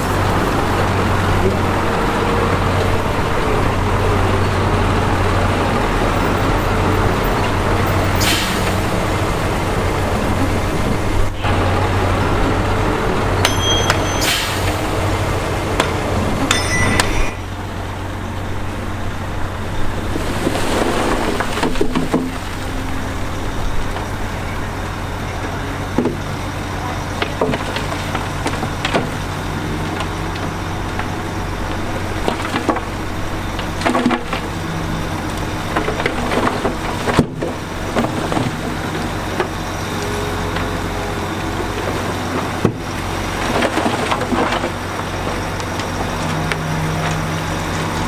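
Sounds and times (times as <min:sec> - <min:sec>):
diesel earthmoving machinery: 0:00.0 - 0:48.0.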